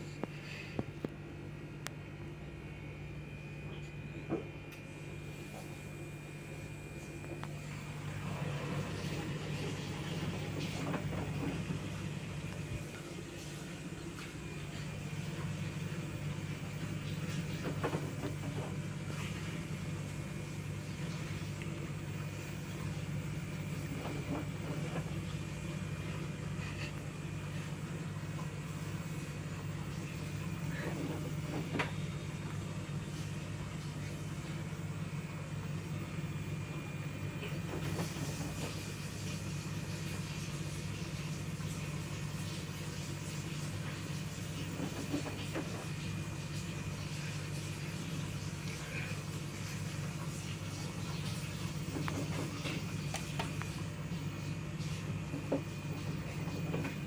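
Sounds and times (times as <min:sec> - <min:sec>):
washing machine spin cycle hum: 0:00.0 - 0:57.0.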